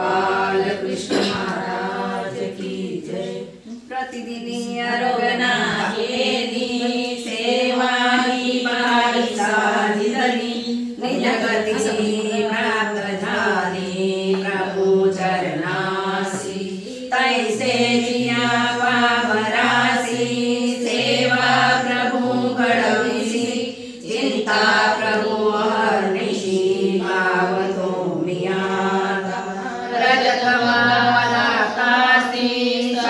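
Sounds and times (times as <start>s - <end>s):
devotional hymn chanted: 0.0s - 33.0s.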